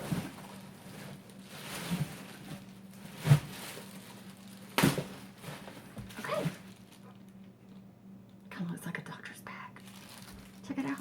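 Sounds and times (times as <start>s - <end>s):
packaging rustling: 0.0s - 7.8s, 9.8s - 11.0s
faint steady hum: 0.0s - 11.0s.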